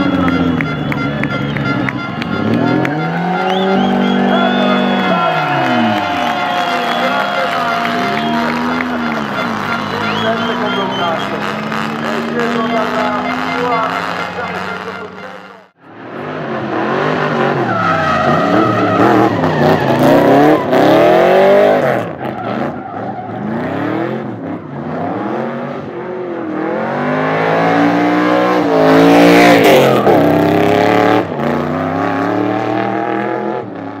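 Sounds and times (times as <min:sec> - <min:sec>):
tyres skidding and squealing: 0:00.0 - 0:34.0
car engine revving hard: 0:02.2 - 0:15.1, 0:16.0 - 0:34.0.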